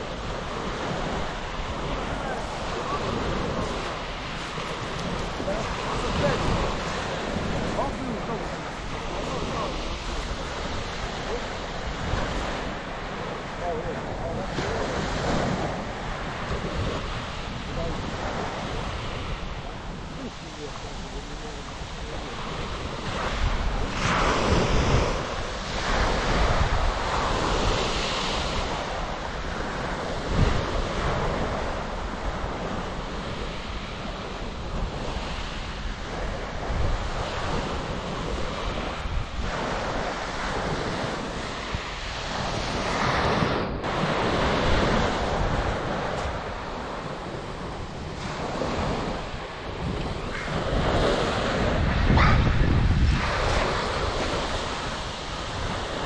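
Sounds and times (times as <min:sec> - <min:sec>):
waves breaking on shingle beach: 0:00.0 - 0:56.0
wind buffeting microphone: 0:00.0 - 0:56.0.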